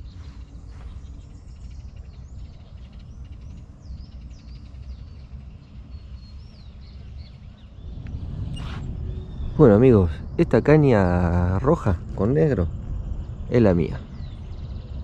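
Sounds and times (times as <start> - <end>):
birds chirping: 0.0 - 15.0
low rumble: 0.0 - 15.0.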